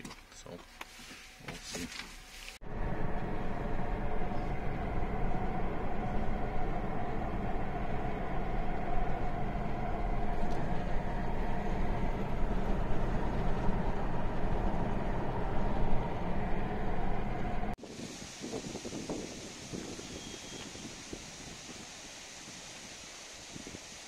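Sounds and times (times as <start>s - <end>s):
car road and engine noise: 0.1s - 22.8s.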